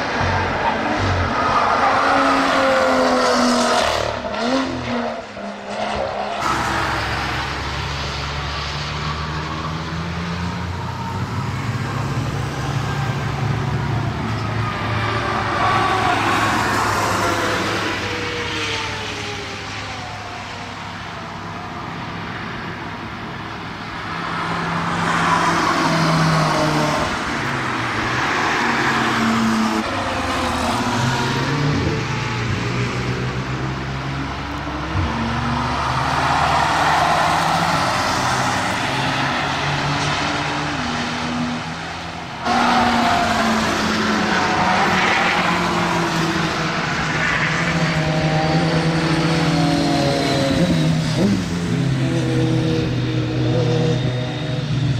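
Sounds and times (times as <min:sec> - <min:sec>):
cars passing: 0:00.0 - 0:54.9.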